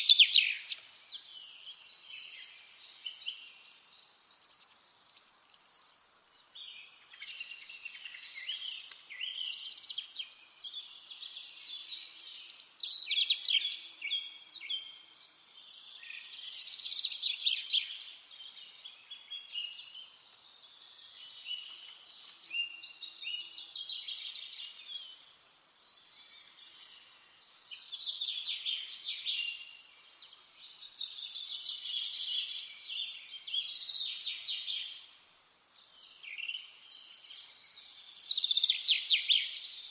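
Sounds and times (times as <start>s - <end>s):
faint outdoor hiss: 0.0s - 39.9s
songbirds twittering: 0.0s - 39.9s.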